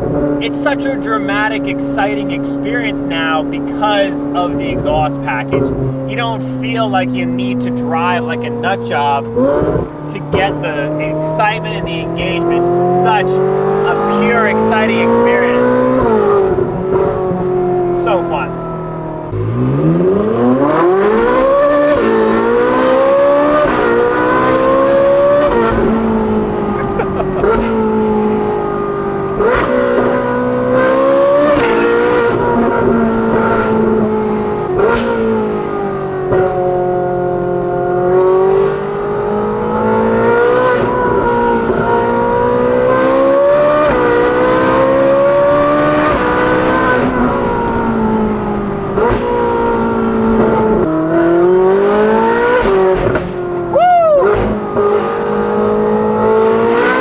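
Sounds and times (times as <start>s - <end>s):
car engine revving from inside cabin: 9.2s - 57.0s.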